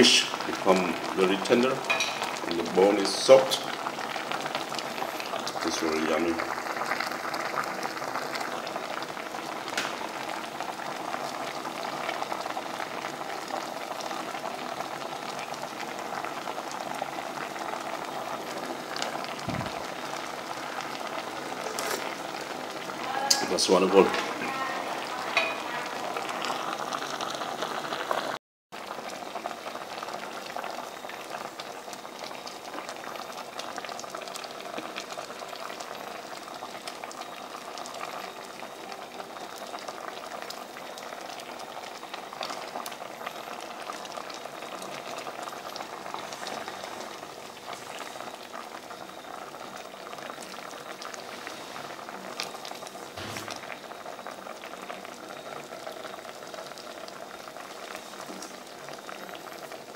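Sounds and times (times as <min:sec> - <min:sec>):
sauce boiling in a pot: 0:00.0 - 0:59.9.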